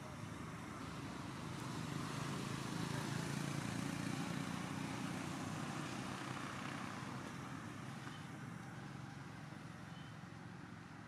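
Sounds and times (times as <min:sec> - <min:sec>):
passing vehicle engine rumble: 0:00.0 - 0:11.0.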